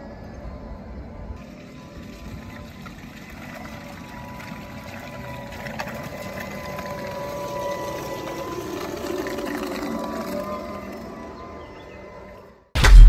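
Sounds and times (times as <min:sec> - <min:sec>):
electric motor whine: 0:00.0 - 0:12.7.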